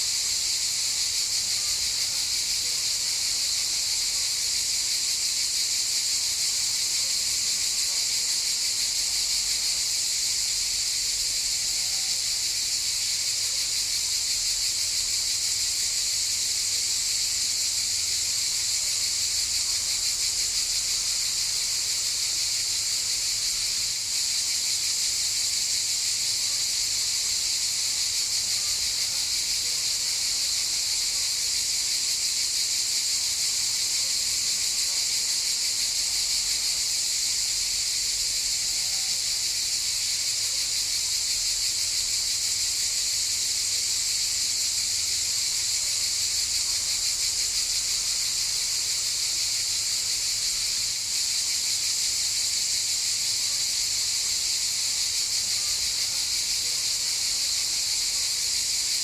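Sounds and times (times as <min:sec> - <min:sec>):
cicadas buzzing: 0:00.0 - 0:03.9, 0:08.3 - 0:59.0.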